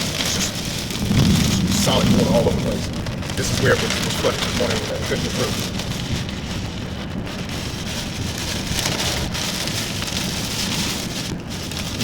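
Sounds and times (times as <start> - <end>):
car rumbling on wet road: 0.0 - 12.0
rain falling on a car: 0.0 - 12.0.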